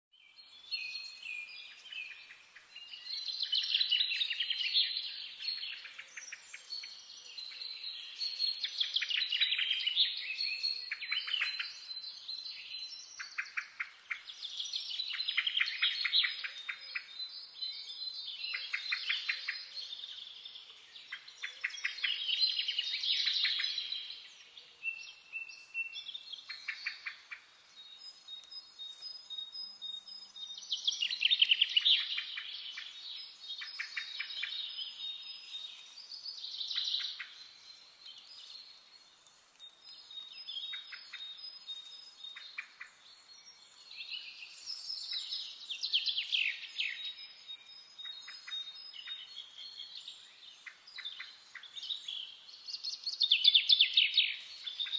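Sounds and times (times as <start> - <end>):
birds chirping and twittering: 0.1 - 54.9.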